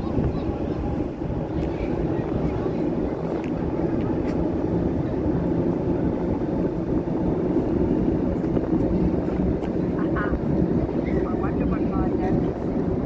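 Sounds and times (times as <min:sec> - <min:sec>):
low rumble of trains and traffic: 0:00.0 - 0:13.0
wind buffeting microphone: 0:00.0 - 0:13.0.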